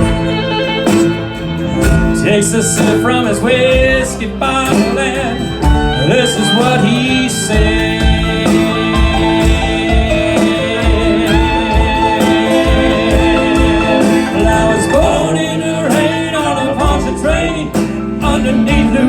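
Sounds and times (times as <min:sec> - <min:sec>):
country band playing: 0:00.0 - 0:19.0
person singing: 0:00.0 - 0:19.0.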